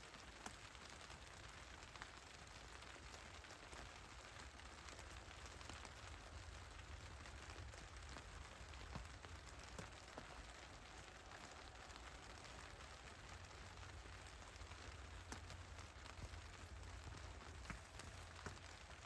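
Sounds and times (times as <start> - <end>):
faint low rumble and hiss: 0.0 - 19.0.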